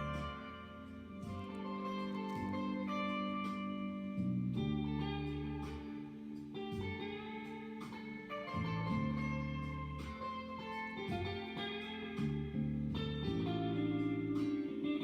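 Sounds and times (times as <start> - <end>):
guitar instrumental with bass: 0.0 - 15.0.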